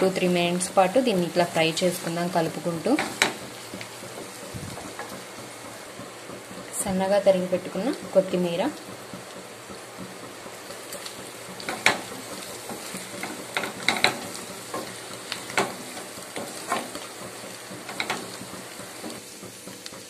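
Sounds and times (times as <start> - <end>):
food sizzling: 0.0 - 20.0.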